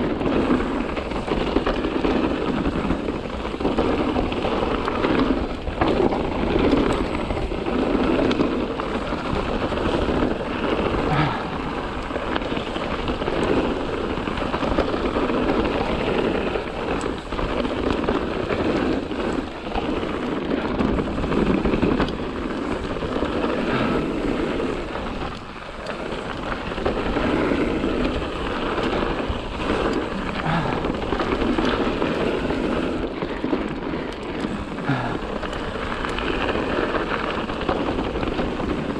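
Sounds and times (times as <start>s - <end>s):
tyres rolling over gravel: 0.0s - 38.9s.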